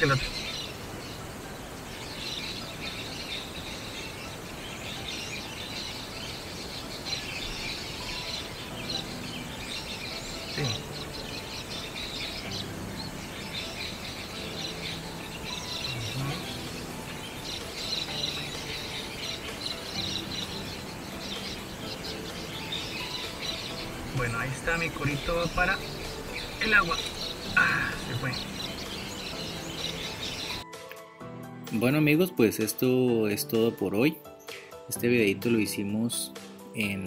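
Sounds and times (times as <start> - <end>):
birds chirping and calling: 0.0 - 31.0.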